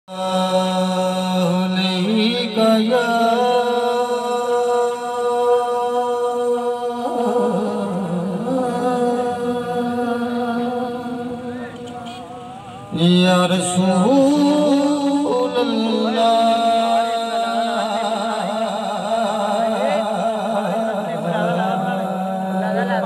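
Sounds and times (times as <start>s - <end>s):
man singing through loudspeaker: 0.1s - 23.0s.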